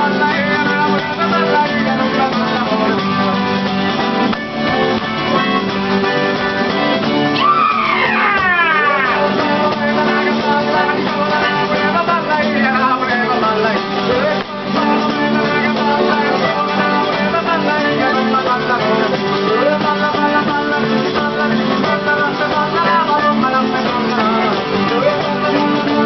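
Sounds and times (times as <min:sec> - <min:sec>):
folk dance music with strummed guitar: 0:00.0 - 0:26.0.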